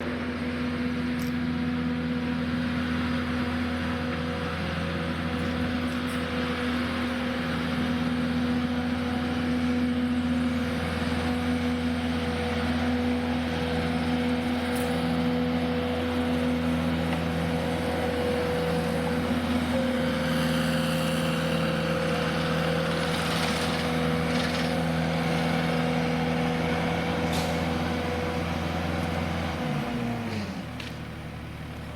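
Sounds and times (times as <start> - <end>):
engine running steadily: 0.0 - 31.9.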